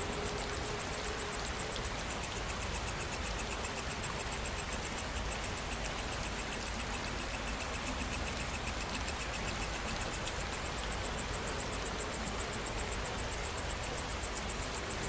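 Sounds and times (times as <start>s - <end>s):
high-pitched insect chirping: 0.0s - 15.0s
lower insect trill: 0.0s - 15.0s
steady rain falling: 0.0s - 15.0s.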